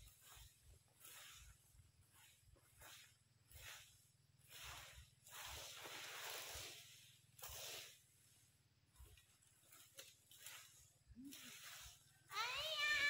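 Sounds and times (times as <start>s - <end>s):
brooms sweeping dry leaves: 0.0s - 13.0s
light leaf rustles: 0.0s - 13.0s.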